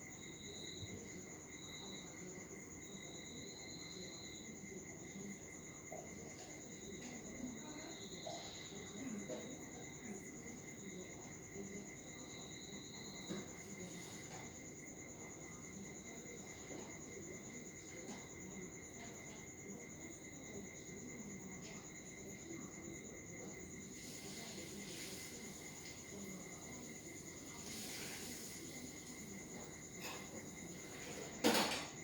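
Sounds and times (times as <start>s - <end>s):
faint low murmuring: 0.6s - 32.0s.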